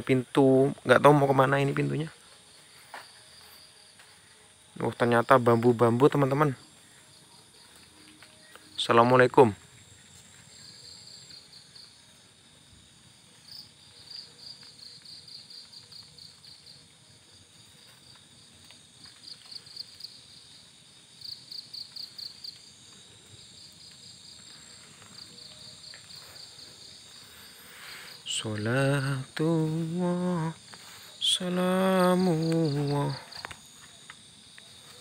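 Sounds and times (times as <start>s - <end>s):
crickets chirping: 0.0s - 35.0s
faint background noise: 0.0s - 35.0s.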